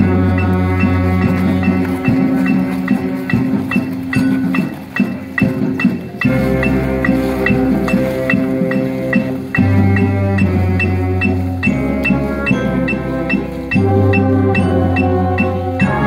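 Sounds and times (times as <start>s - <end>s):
low sousaphone notes: 0.0s - 16.0s
marching band brass chords: 0.0s - 16.0s.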